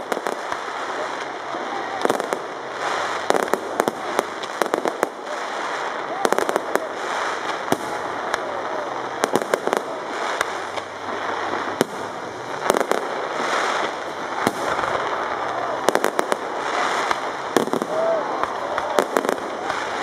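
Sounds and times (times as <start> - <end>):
background noise: 0.0 - 20.0
fireworks bursting: 0.0 - 20.0.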